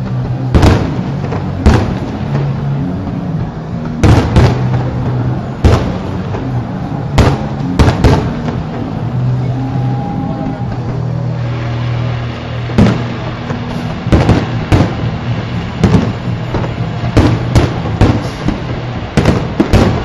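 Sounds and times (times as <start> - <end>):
fireworks bangs: 0.0 - 20.0
steady low hum: 0.0 - 20.0.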